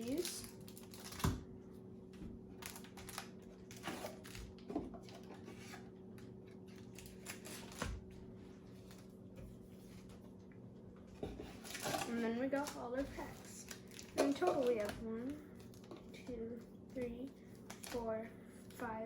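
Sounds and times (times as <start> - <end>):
faint steady hum: 0.0 - 19.0
cards and cardboard rustling: 2.6 - 10.4, 11.1 - 19.0.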